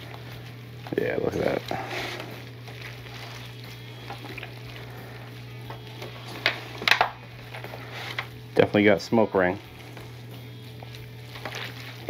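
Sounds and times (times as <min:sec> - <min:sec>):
meat squishing and tearing: 0:00.0 - 0:08.6, 0:09.5 - 0:12.0
steady low hum: 0:00.0 - 0:12.0.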